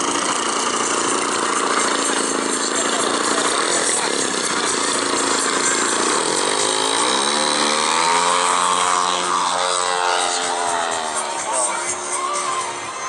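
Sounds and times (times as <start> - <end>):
model plane engine revving: 0.0 - 13.0.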